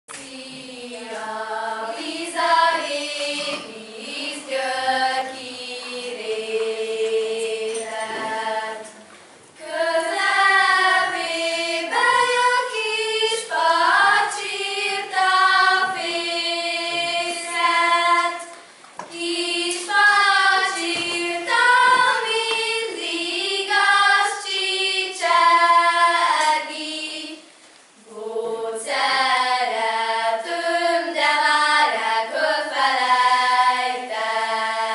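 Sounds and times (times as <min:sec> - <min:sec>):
girls singing unaccompanied: 0:00.1 - 0:34.9.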